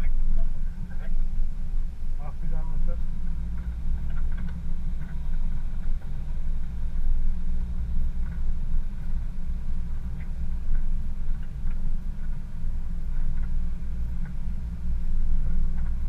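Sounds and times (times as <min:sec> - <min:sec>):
vehicle engine and tyre rumble: 0:00.0 - 0:16.0.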